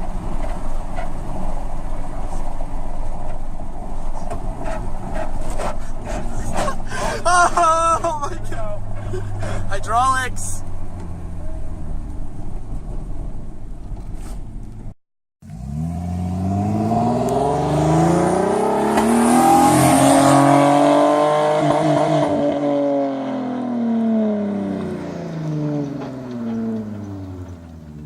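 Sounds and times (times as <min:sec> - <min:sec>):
car exhaust droning and accelerating: 0:00.0 - 0:28.0.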